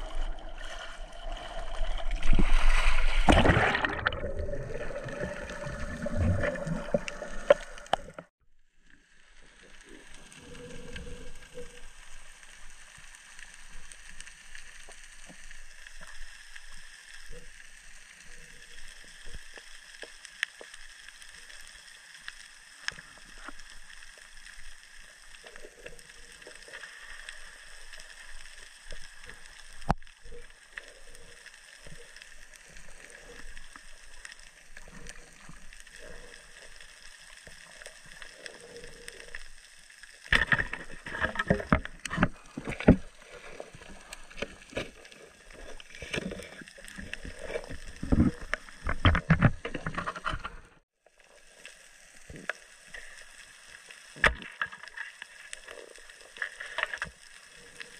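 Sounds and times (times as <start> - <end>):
underwater hiss: 0.0 - 8.2, 9.6 - 48.9.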